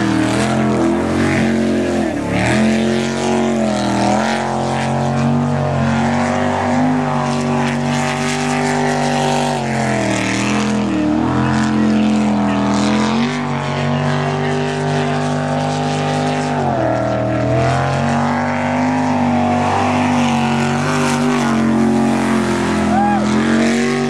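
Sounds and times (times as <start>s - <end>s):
boat engine revving hard: 0.0s - 24.0s.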